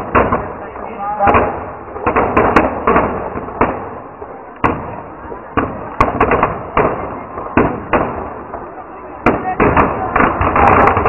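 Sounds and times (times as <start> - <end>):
fire crackling: 0.0 - 11.0
firecrackers banging: 0.0 - 11.0.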